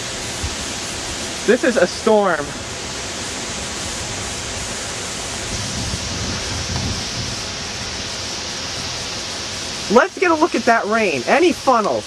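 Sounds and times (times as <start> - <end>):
strong wind rushing: 0.0 - 10.0
wind gusts hitting microphone: 0.0 - 12.0.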